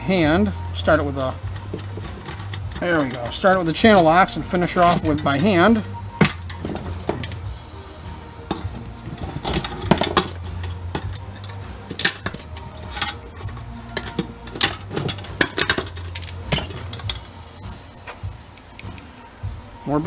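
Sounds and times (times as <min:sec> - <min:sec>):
metal parts and tools clinking: 0:00.0 - 0:19.4
steady low hum: 0:00.0 - 0:20.0.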